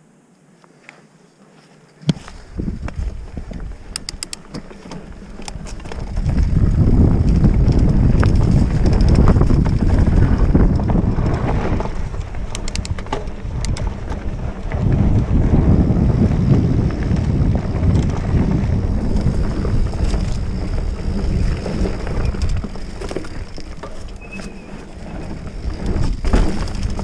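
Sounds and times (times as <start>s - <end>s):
bike clicks and rattles: 2.0s - 27.0s
wind on microphone: 2.1s - 4.3s, 5.1s - 27.0s.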